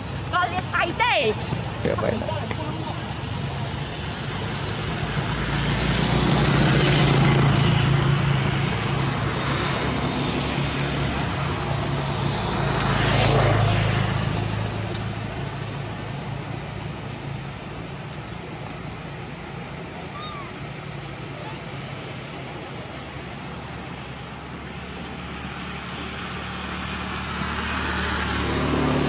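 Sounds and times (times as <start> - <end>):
road vehicles passing: 0.0 - 29.0.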